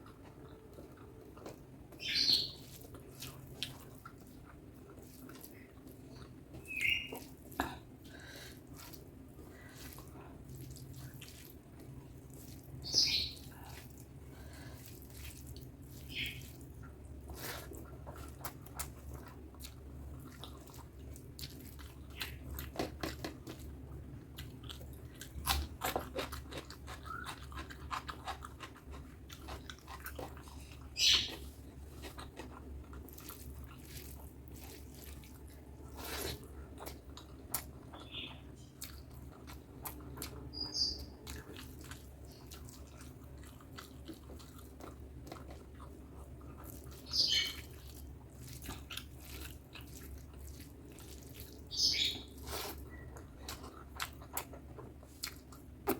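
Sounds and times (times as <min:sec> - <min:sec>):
chewing and eating: 0:00.0 - 0:55.9.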